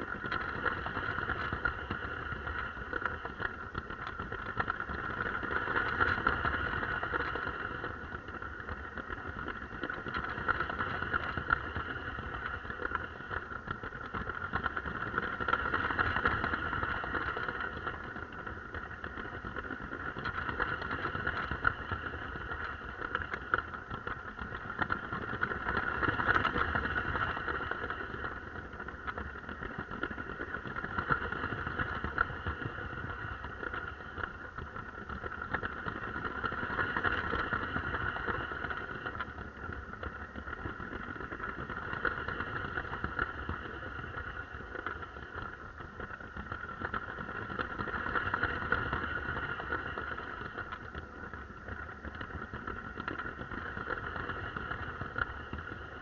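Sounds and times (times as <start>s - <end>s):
wheels rattling on plastic track: 0.0s - 56.0s.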